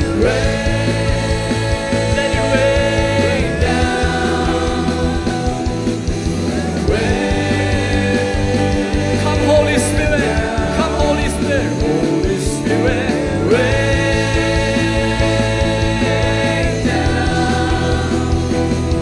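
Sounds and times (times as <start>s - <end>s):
woman and man singing: 0.0s - 5.9s, 6.8s - 19.0s
bass guitar: 0.0s - 19.0s
drums: 0.0s - 19.0s.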